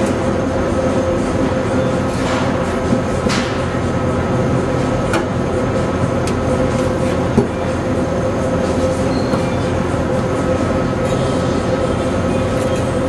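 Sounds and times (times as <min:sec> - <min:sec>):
loud mechanical drone: 0:00.0 - 0:13.0.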